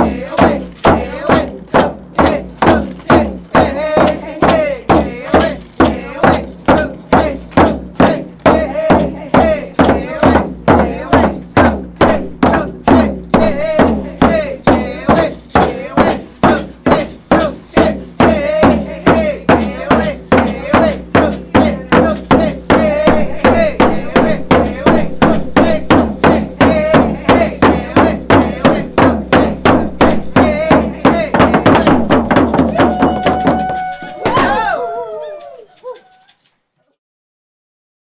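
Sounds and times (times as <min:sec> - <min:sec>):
singers chanting together: 0:00.0 - 0:32.1
hand drum beats: 0:00.0 - 0:34.7.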